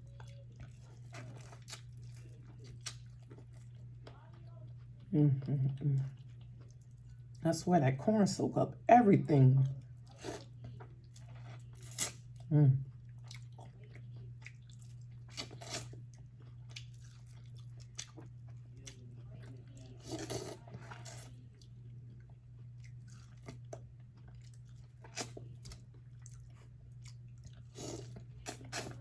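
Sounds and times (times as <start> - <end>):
chewing corn on the cob: 0.0 - 7.4, 9.8 - 29.0
steady low hum: 0.0 - 29.0.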